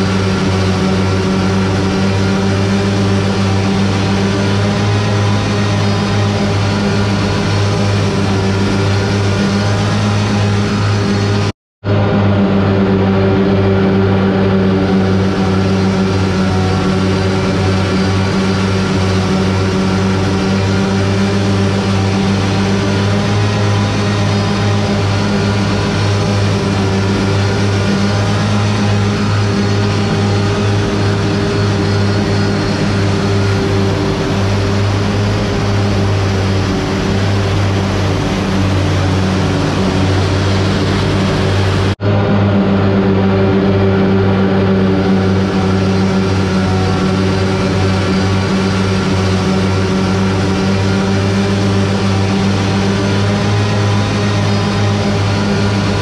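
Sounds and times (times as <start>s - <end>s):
machinery low drone: 0.0s - 56.0s.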